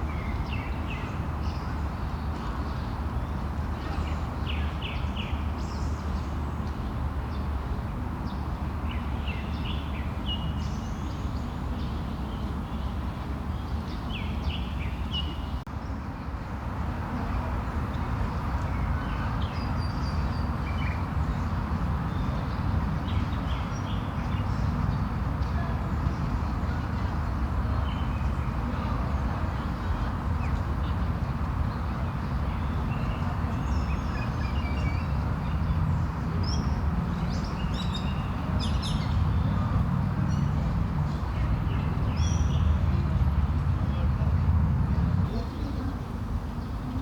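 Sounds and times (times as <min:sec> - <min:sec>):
distant traffic hum: 0:00.0 - 0:47.0.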